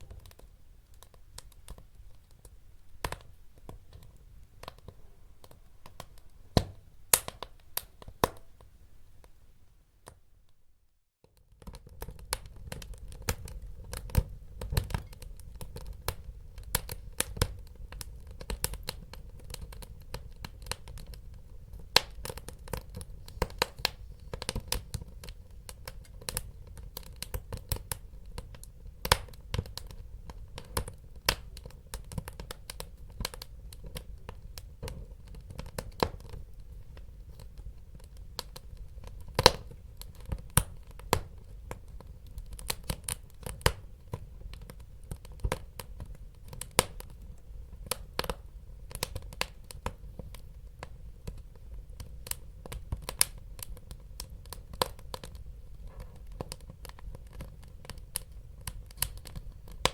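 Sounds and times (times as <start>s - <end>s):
wood fire crackling: 0.0s - 10.6s, 11.2s - 59.9s.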